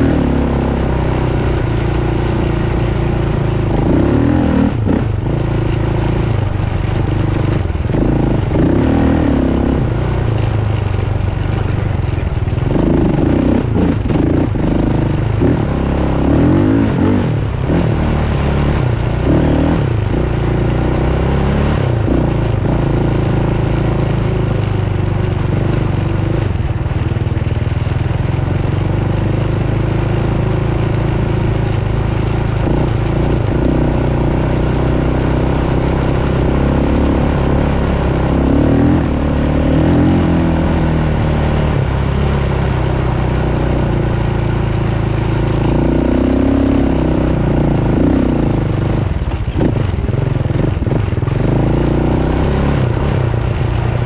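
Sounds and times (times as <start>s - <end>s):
off-road vehicle engine revving: 0.0s - 27.2s, 27.8s - 54.0s.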